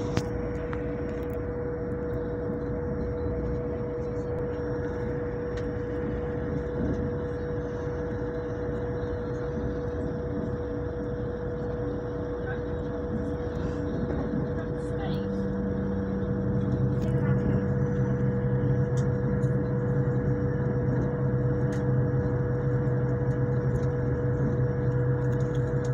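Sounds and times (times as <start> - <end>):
train rumbling: 0.0 - 25.9.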